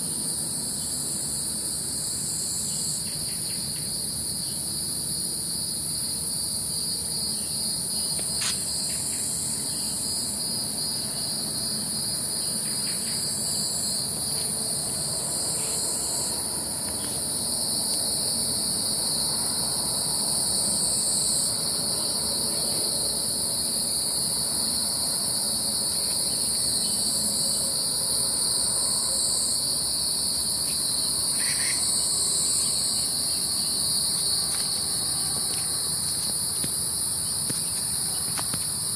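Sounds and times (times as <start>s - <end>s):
insects chorus shrilling: 0.0s - 38.9s.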